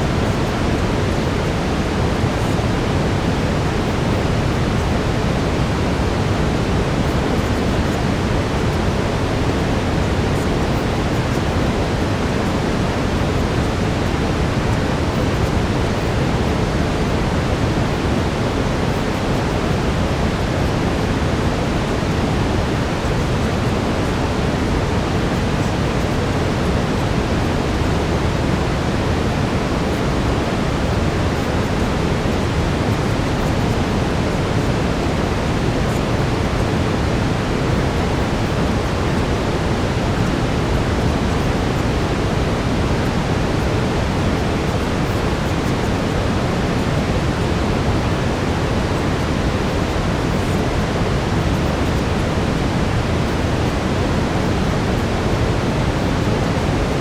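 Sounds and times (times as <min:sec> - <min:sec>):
steady brown noise: 0:00.0 - 0:57.0.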